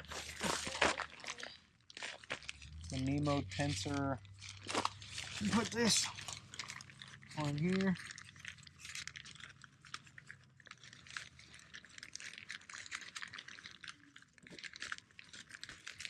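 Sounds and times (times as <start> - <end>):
nylon fabric crinkling: 0.0 - 16.0.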